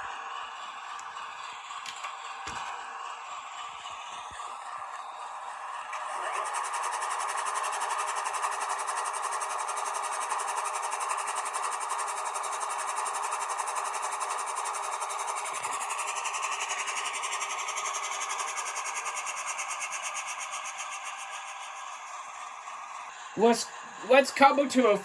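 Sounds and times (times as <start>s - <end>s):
diesel engine sound from speaker: 0.0s - 25.0s.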